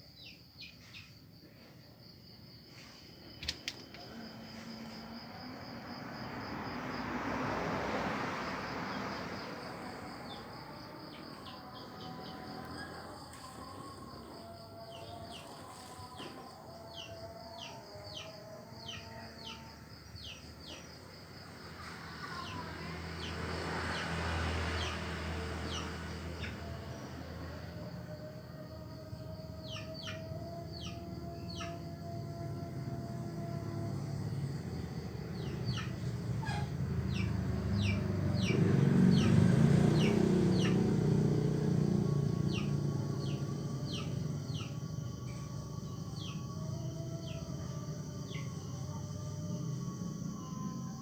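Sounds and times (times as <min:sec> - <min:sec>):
high insect trill: 0:00.0 - 0:51.0.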